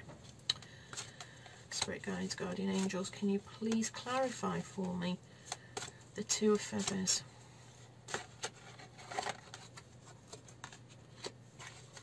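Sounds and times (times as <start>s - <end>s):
cards shuffled and tapping: 0.1s - 7.2s, 8.0s - 12.0s.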